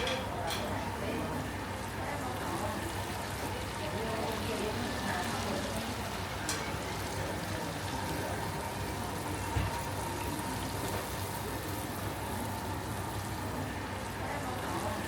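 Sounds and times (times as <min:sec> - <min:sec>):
hubbub of indistinct voices: 0:00.0 - 0:15.0.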